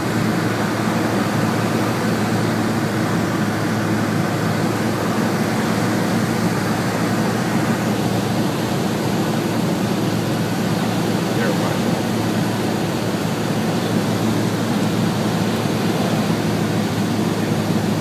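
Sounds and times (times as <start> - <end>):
propeller engine droning: 0.0 - 18.0.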